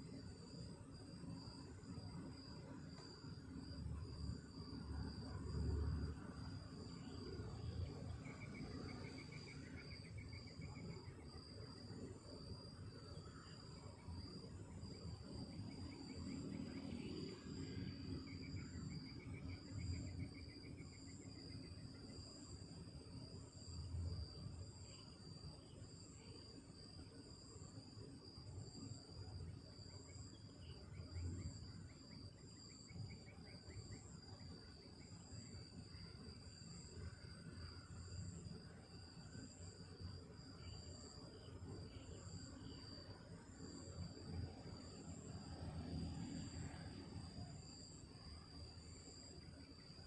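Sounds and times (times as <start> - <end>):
insect pulsing call: 0.0 - 50.0
insect steady high trill: 0.0 - 50.0.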